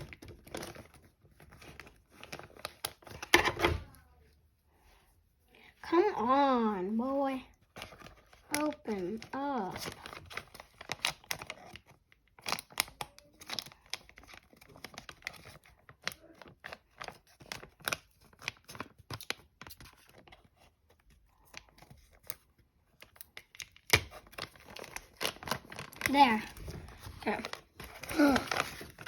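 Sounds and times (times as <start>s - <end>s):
plastic wrapper crinkling and tearing: 0.0s - 3.8s, 7.5s - 29.0s.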